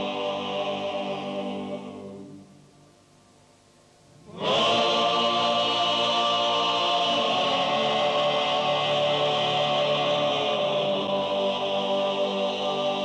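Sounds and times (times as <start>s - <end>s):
male choir singing: 0.0s - 2.4s, 4.3s - 13.0s.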